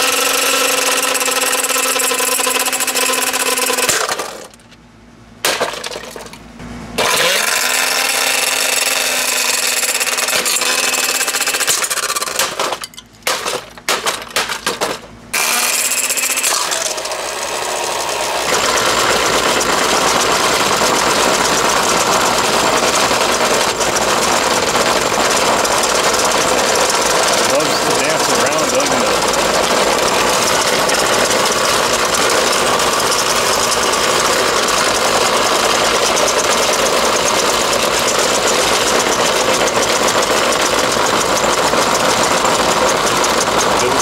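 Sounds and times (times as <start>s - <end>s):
blender motor whining: 0.0s - 4.5s, 7.0s - 12.2s, 15.4s - 44.0s.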